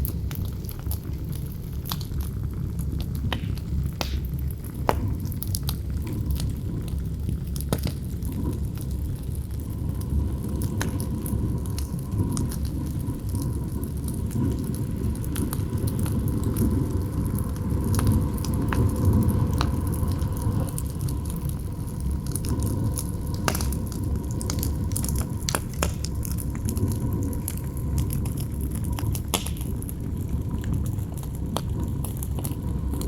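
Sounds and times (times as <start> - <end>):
campfire crackling: 0.0 - 33.0
low rumble of wind: 0.0 - 33.0.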